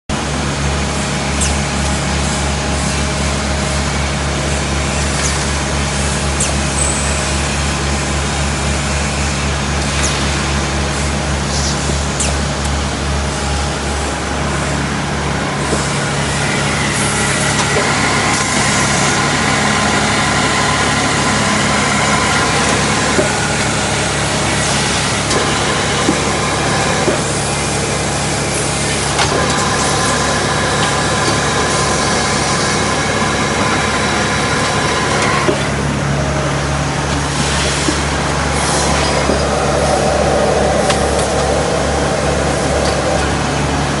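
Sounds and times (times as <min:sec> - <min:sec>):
packing machine humming and whining: 0:00.1 - 0:44.0.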